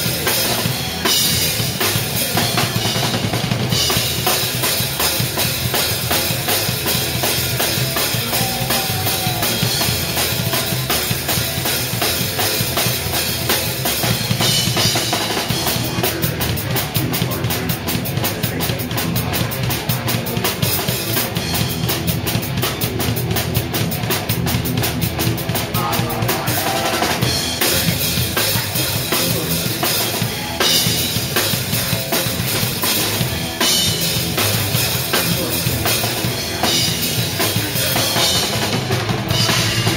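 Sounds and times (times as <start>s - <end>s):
drum kit played fast: 0.0s - 39.9s
live band playing: 0.0s - 39.9s.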